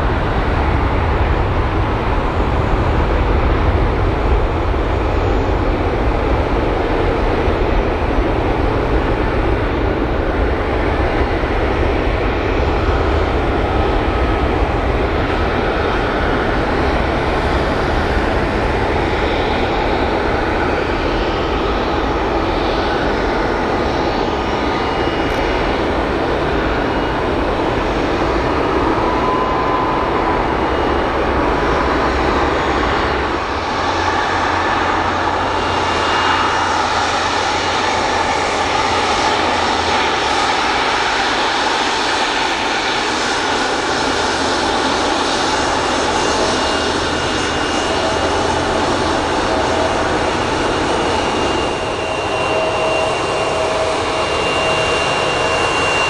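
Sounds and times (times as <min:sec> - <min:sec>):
airliner engines running: 0:00.0 - 0:56.0.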